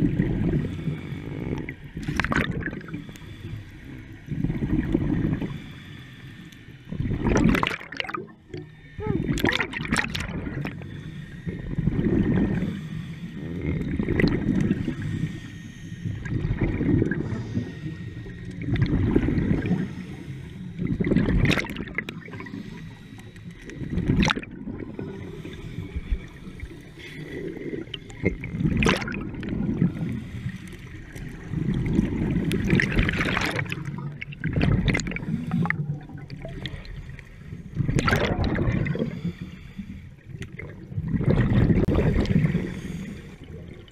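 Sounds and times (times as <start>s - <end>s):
exhaled bubbles gurgling: 0.0s - 5.7s, 6.9s - 15.4s, 16.0s - 43.9s
scuba regulator breathing: 0.4s - 7.1s, 10.4s - 21.2s, 21.8s - 34.3s, 34.9s - 37.8s, 38.7s - 40.8s, 41.8s - 43.9s.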